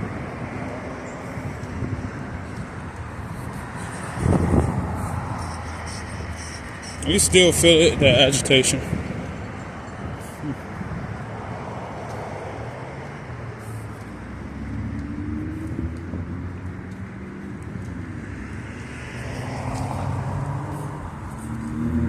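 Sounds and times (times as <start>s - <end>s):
cars passing: 0.0s - 22.0s
vehicle engine hum: 0.0s - 22.0s.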